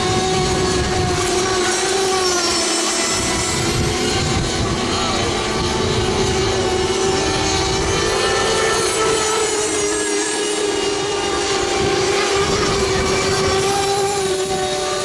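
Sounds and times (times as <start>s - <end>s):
model boat engines whining: 0.0s - 15.0s.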